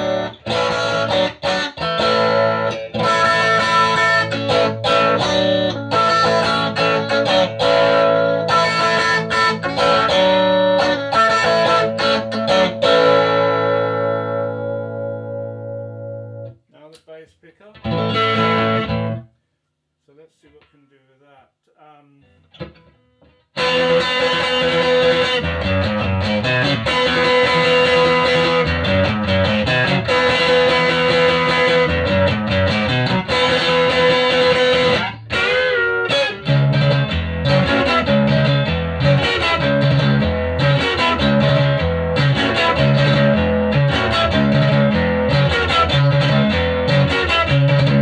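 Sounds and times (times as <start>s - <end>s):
electric guitar chords and riff: 0.0s - 16.6s, 17.8s - 19.3s, 22.4s - 48.0s.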